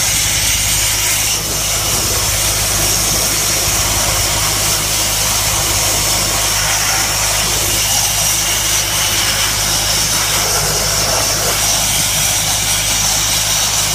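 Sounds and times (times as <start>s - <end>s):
low engine drone: 0.0s - 13.9s
sandblaster nozzle hissing: 0.0s - 13.9s.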